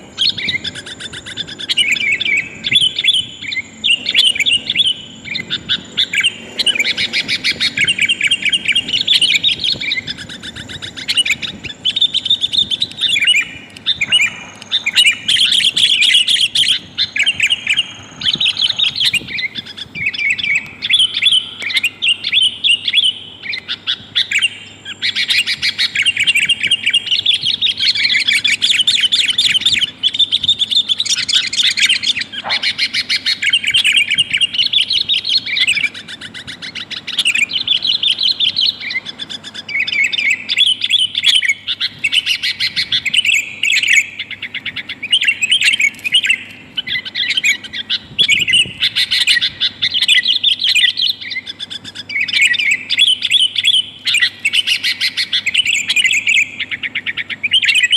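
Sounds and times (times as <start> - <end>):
bird chattering calls: 0.0 - 57.9.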